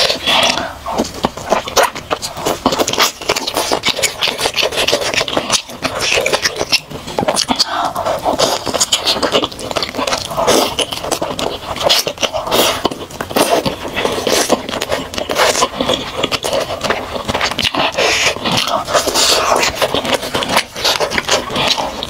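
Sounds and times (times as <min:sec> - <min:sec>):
person eating with wet mouth sounds: 0:00.0 - 0:22.0.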